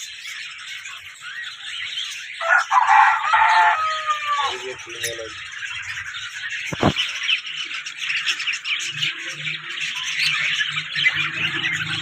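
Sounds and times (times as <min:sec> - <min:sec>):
parrots squawking and chirping: 0:00.0 - 0:12.0.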